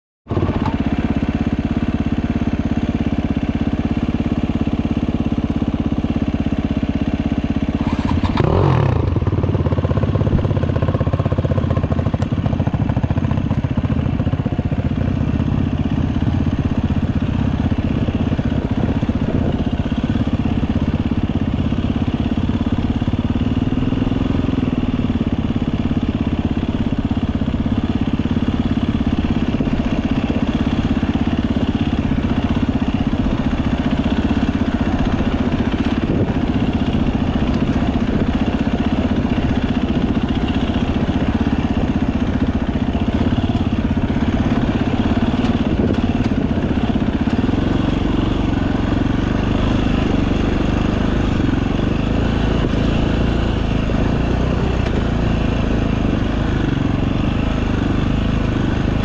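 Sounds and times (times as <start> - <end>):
two-stroke motorcycle engine running: 0.3 - 59.0.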